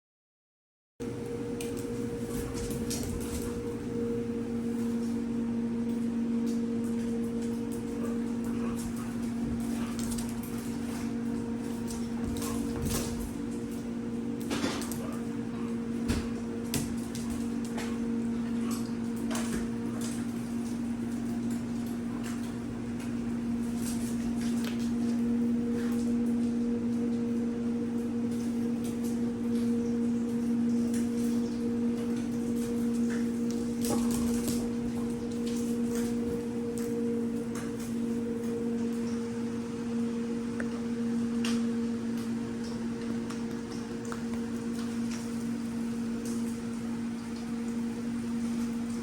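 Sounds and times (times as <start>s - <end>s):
steady low hum: 1.0s - 49.0s.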